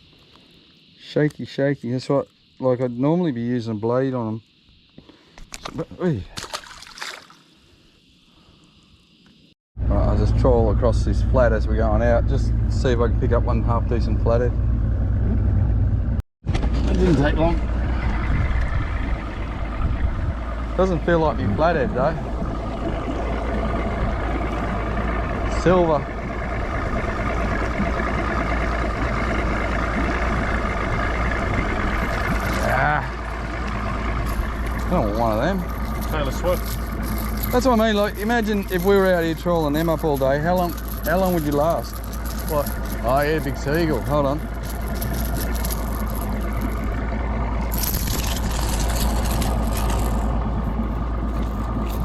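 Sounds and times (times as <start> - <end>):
outboard motor running: 9.8 - 52.0.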